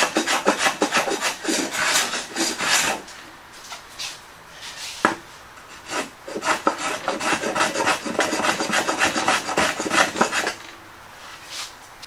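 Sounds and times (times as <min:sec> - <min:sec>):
hand tool scraping wood: 0:00.0 - 0:11.8.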